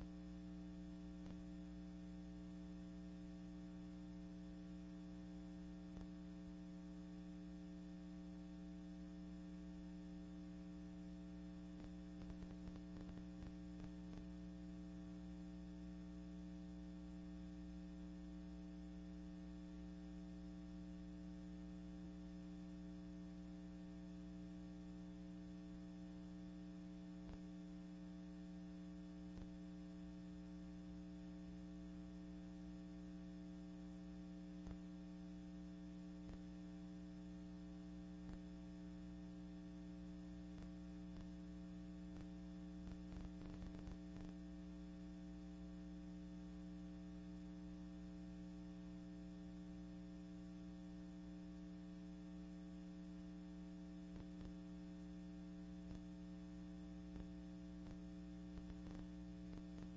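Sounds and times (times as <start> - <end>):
crackle: 0.0 - 59.9
mains hum: 0.0 - 59.9.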